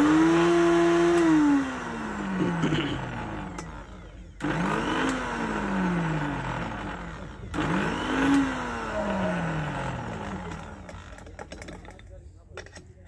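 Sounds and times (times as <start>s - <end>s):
blender motor pulsing: 0.0s - 11.4s.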